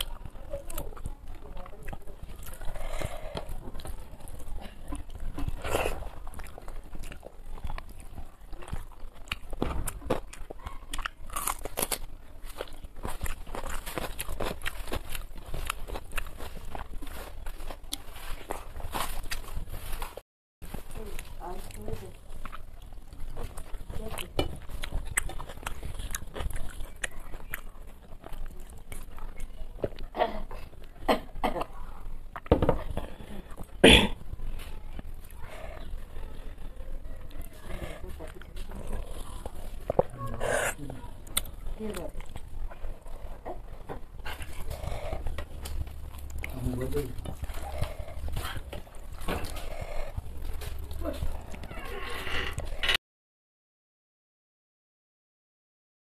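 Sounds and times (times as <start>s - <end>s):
close chewing and mouth clicks: 0.0s - 53.0s.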